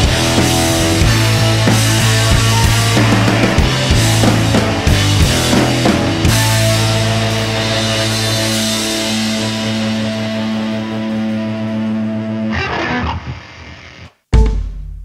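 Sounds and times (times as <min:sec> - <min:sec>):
rock music chord ringing: 0:00.0 - 0:14.7.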